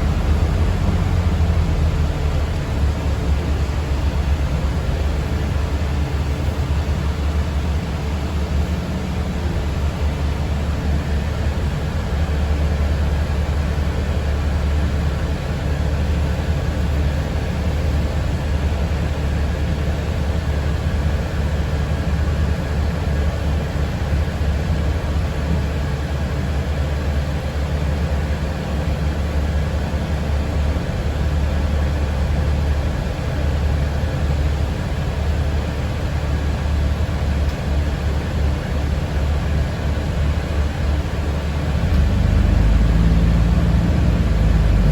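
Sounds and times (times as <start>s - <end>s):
bus interior rumble: 0.0s - 44.9s.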